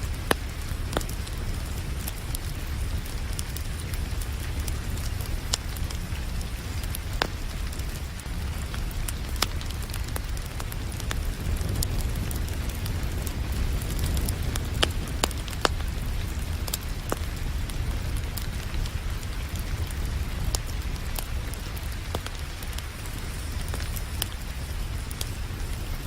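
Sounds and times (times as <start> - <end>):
constant low rumble: 0.0 - 26.0
steady rain: 0.0 - 26.0
wood fire crackling and popping: 0.0 - 26.0.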